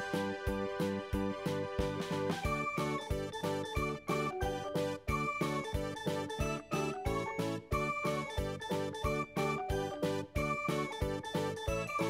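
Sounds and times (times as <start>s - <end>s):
keyboard tune over a beat: 0.0s - 12.0s.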